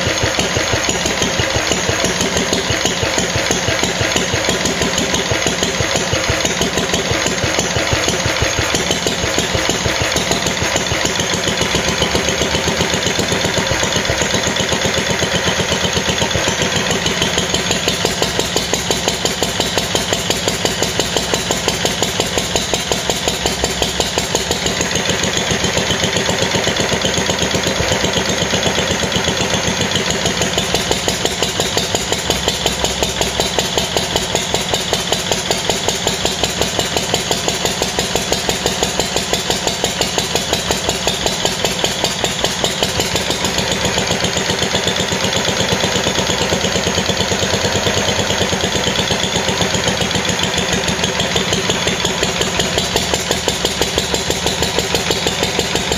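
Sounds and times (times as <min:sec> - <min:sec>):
stationary engine running: 0:00.0 - 0:55.9.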